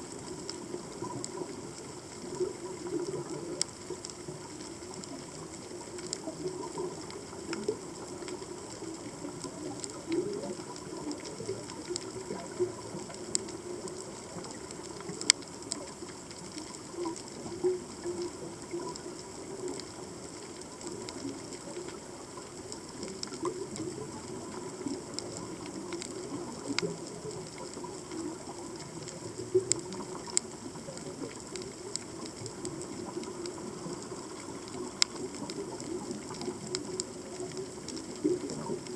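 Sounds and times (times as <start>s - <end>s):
underwater clicks and crackles: 0.0s - 38.9s
underwater hiss and wash: 0.0s - 38.9s.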